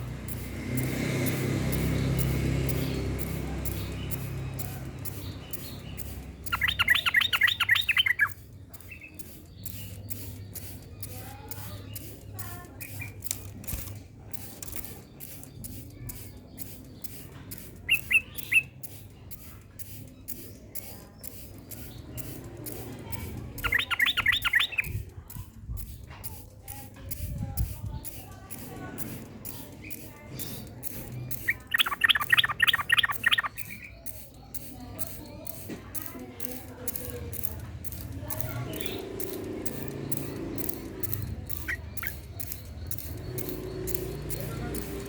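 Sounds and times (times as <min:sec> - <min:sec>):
bird singing rapid repeated notes: 0:00.0 - 0:45.0.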